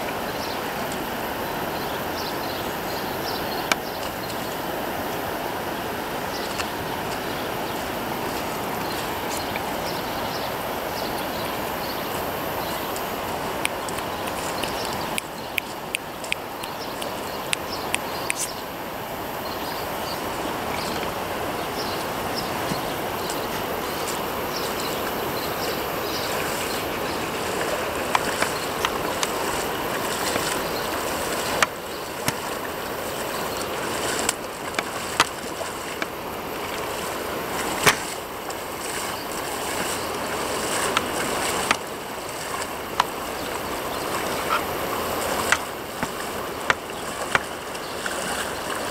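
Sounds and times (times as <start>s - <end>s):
river running over gravel: 0.0s - 48.9s.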